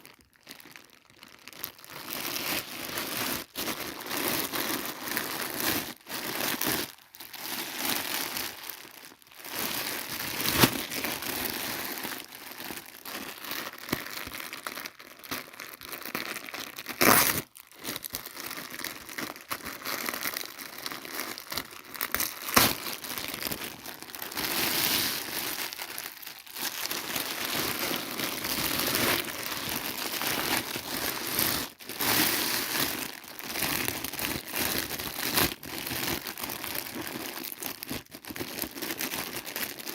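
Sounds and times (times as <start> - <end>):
packaging crinkling and rustling: 0.0 - 39.9.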